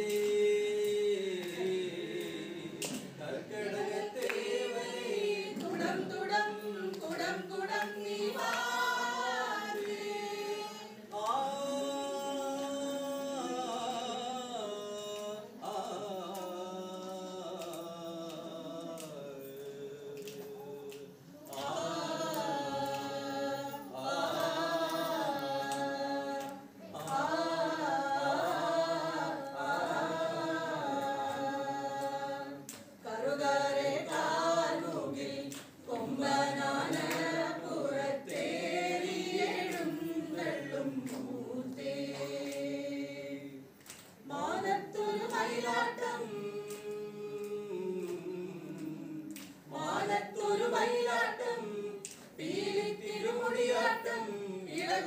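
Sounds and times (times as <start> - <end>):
group of voices singing: 0.0 - 55.0.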